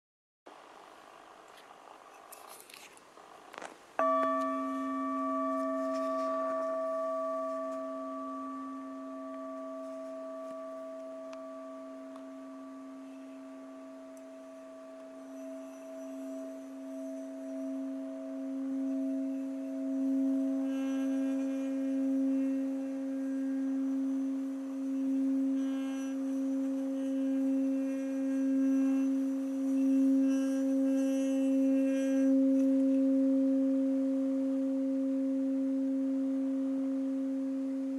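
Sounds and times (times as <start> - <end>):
pulsing hum of rubbed bowl: 0.5 - 37.9
singing bowl ringing: 4.0 - 37.9.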